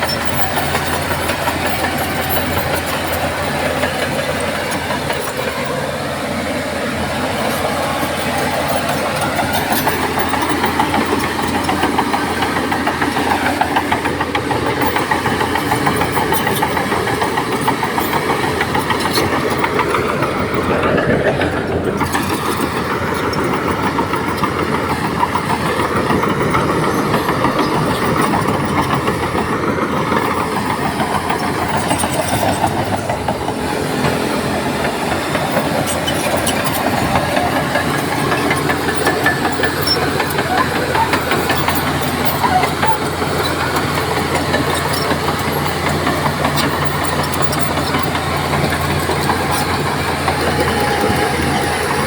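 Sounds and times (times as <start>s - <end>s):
bulldozer diesel engine working: 0.0s - 52.0s.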